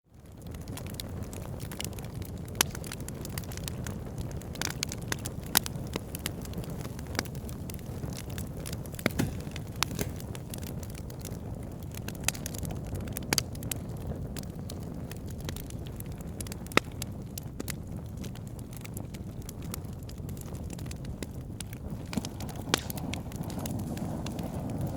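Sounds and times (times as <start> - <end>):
burning wood popping and crackling: 0.1 - 24.9
low rush of flame: 0.5 - 24.9.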